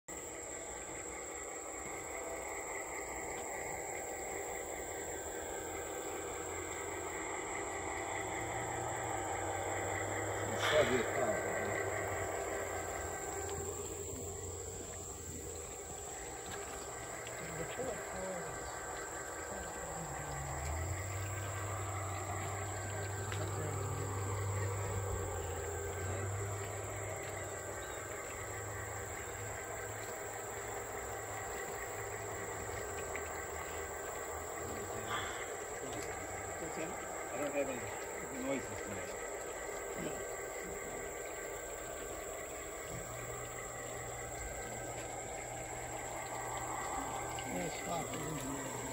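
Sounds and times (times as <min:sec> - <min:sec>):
model locomotive running hum: 0:00.0 - 0:48.9
high insect buzz: 0:00.1 - 0:48.9.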